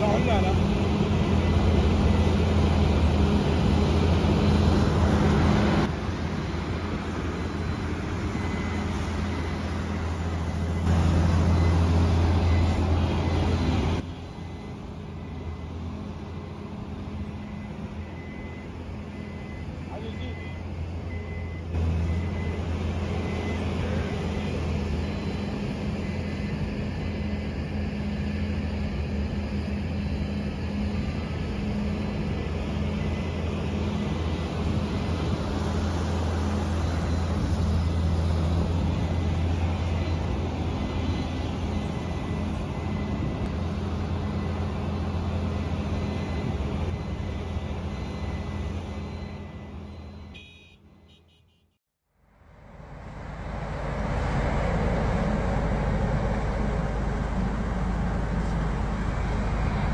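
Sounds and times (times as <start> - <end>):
mini loader engine running: 0.0 - 50.6.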